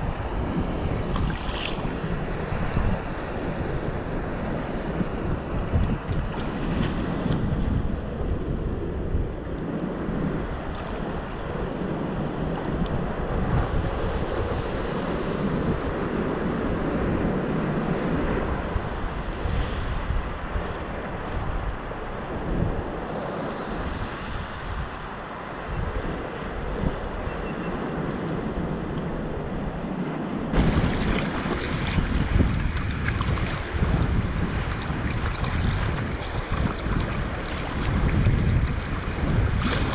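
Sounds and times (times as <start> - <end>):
ocean swell sloshing around hull: 0.0 - 8.2, 9.8 - 39.9
wind buffeting microphone: 0.0 - 39.9.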